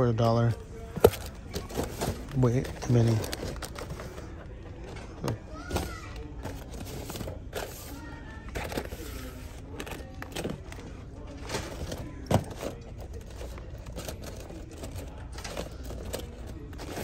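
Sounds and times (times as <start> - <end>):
faint music: 0.0 - 17.0
toy packaging handled: 0.2 - 17.0.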